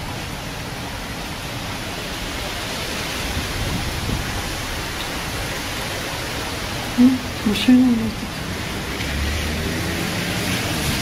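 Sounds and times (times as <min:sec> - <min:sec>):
rain pouring: 0:00.0 - 0:11.0.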